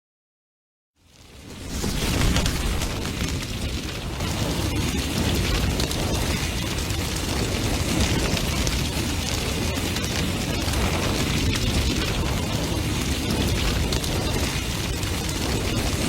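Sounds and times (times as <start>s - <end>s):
fire crackling and popping: 1.0s - 16.0s
roar of bonfire flames: 1.0s - 16.0s.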